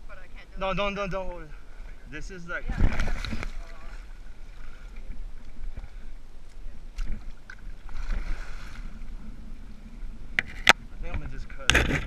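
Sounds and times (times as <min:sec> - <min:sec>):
water splashing and sloshing: 0:00.1 - 0:12.0.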